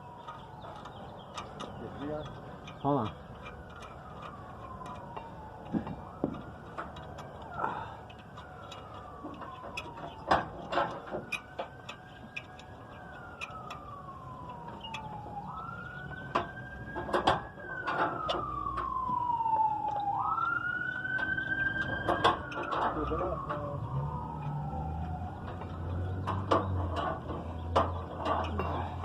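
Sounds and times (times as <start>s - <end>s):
wailing siren: 0.0s - 29.0s
sharp knocks and clanks: 0.2s - 7.5s, 8.1s - 15.4s, 16.2s - 19.2s, 21.1s - 23.7s, 24.3s - 28.8s.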